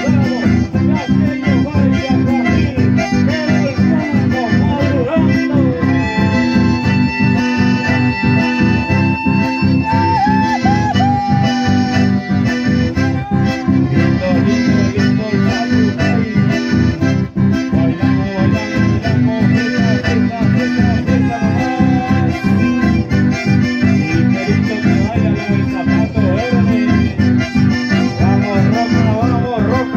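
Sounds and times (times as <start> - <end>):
accordions playing melody: 0.0 - 29.9
strummed acoustic guitars: 0.0 - 29.9.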